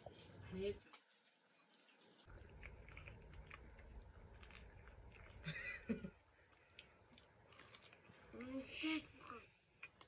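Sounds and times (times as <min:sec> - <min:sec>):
faint chewing: 0:00.9 - 0:10.0.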